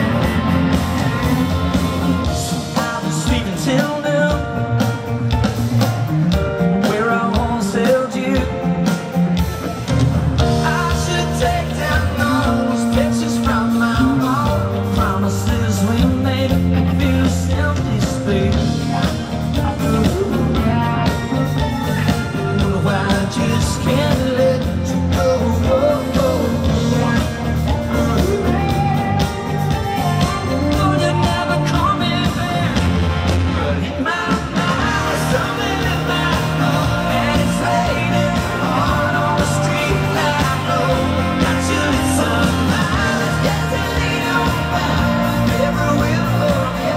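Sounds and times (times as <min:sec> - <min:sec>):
live rock band: 0:00.0 - 0:46.9
man singing: 0:01.0 - 0:05.4, 0:06.0 - 0:09.4, 0:10.4 - 0:46.9.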